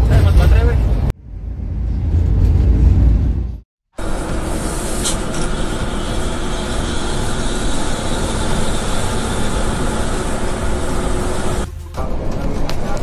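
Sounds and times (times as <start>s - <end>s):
moving bus road noise: 0.0s - 13.0s.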